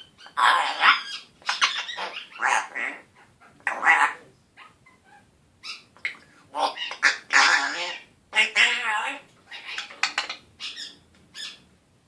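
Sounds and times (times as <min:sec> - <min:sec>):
parrot vocalizing in scratchy voice: 0:00.2 - 0:11.6.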